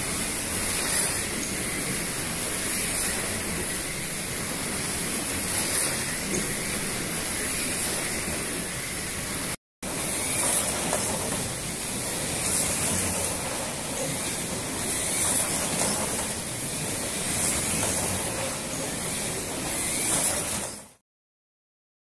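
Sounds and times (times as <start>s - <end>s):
slot cars electric motors whining: 0.0s - 21.0s.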